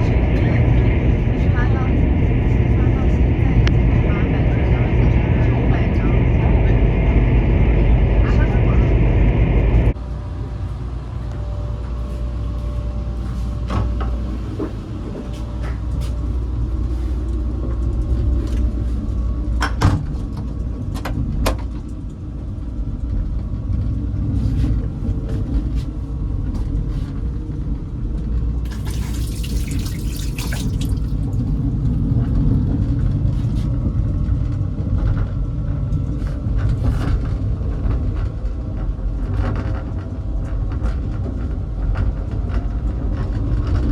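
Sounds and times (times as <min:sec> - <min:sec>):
train running rumble: 0:00.0 - 0:43.9.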